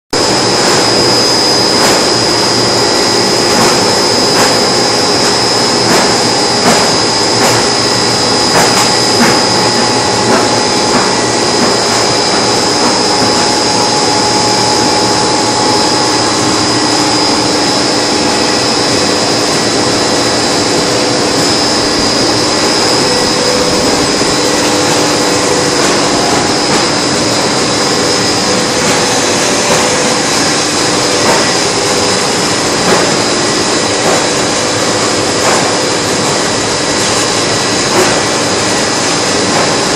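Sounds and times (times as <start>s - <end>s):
high steady whine: 0.1s - 39.9s
machine motor drone: 0.2s - 39.9s.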